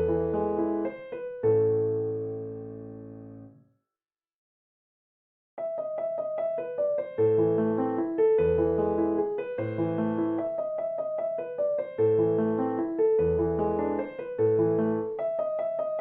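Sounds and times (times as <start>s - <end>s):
piano tune: 0.0s - 3.7s, 5.6s - 16.0s.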